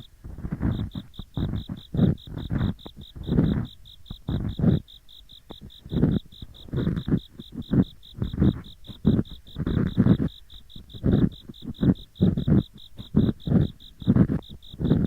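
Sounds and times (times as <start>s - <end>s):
ear pick scraping: 0.0s - 15.0s
insects chirping: 0.0s - 15.0s.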